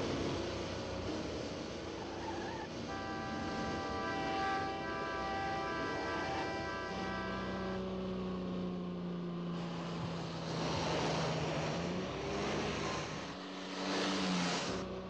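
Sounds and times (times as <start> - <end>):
car engine running at speed: 0.0 - 15.0
road and wind noise: 0.0 - 15.0.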